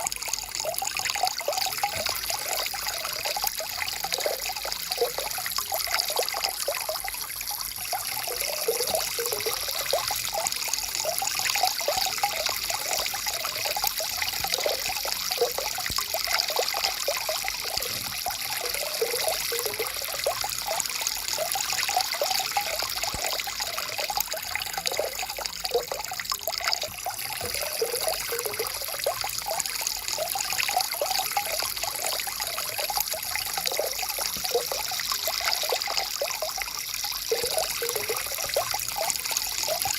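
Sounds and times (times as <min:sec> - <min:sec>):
stream bubbling over stones: 0:00.0 - 0:39.9.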